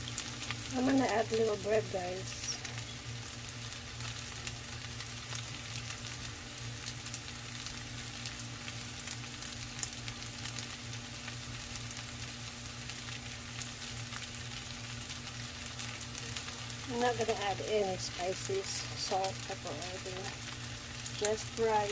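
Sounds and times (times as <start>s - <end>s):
meat and rice sizzling in a pan: 0.0s - 21.9s
small crackles: 0.0s - 21.9s.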